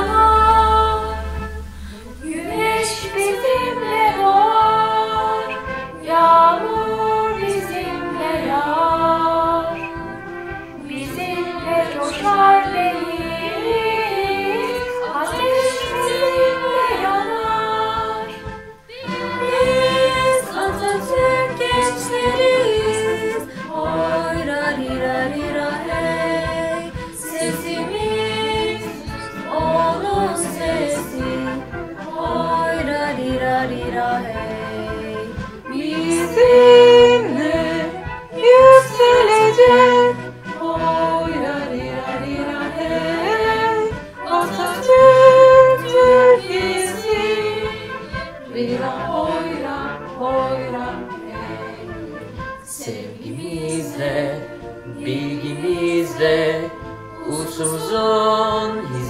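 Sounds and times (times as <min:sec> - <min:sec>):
youth choir singing: 0:00.0 - 0:59.0.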